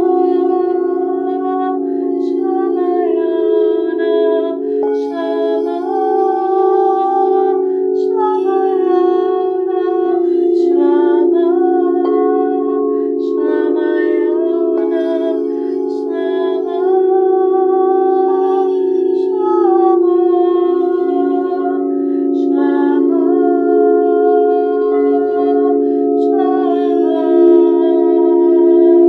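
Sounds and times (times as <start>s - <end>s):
drone of sustained tones: 0.0s - 29.0s
woman chanting: 0.0s - 29.0s.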